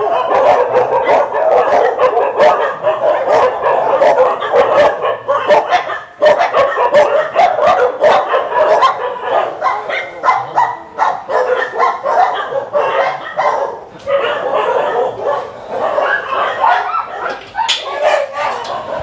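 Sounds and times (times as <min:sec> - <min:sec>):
many dogs barking: 0:00.0 - 0:19.0.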